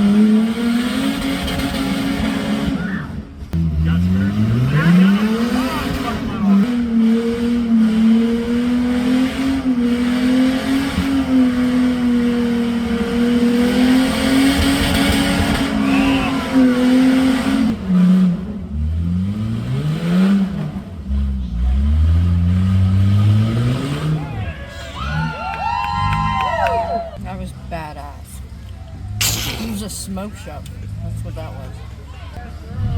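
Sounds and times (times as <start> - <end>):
engine revving: 0.0 - 25.3, 27.4 - 32.9.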